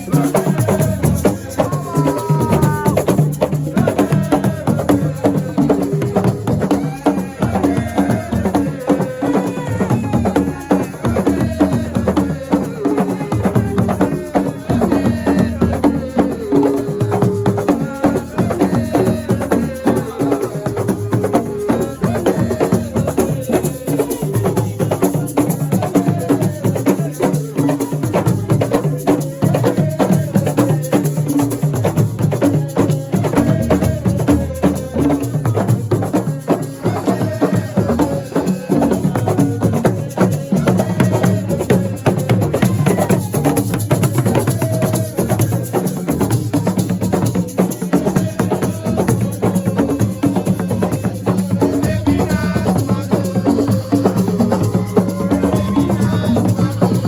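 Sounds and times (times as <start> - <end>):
fast dense percussion: 0.0 - 57.0.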